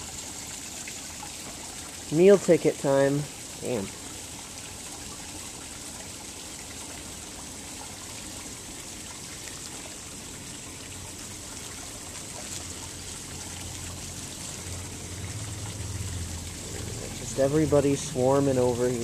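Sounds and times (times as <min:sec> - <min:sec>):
trickle of running water: 0:00.0 - 0:19.0.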